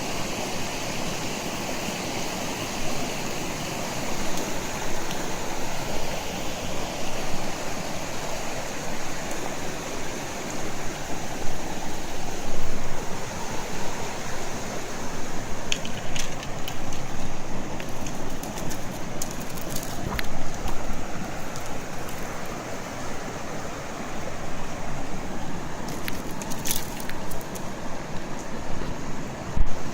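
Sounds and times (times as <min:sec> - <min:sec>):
rushing river water: 0:00.0 - 0:29.9.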